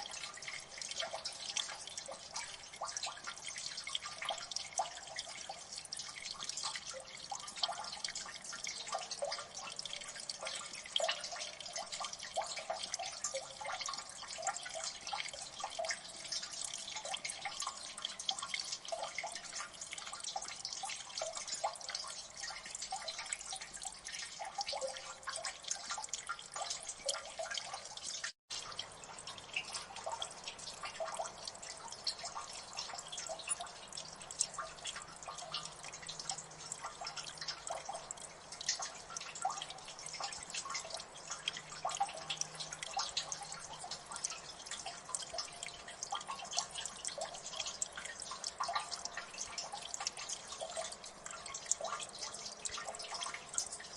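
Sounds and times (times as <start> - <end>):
water dripping: 0.0 - 53.9.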